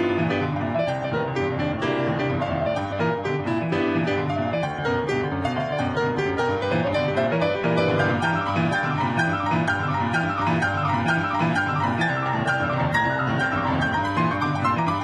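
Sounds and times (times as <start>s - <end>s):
blues piano playing: 0.0s - 15.0s.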